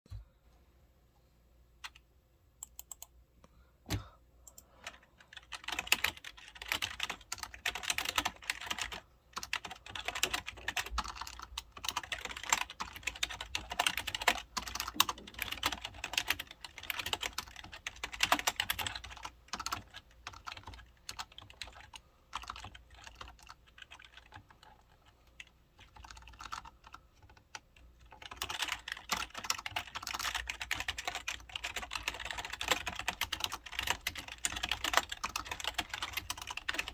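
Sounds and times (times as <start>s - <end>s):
keyboard typing: 1.8s - 2.0s, 2.6s - 3.1s, 3.9s - 36.9s.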